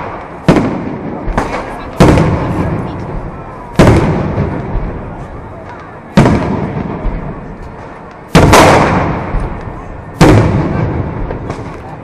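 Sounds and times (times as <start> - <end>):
rumbling echo: 0.0 - 12.0.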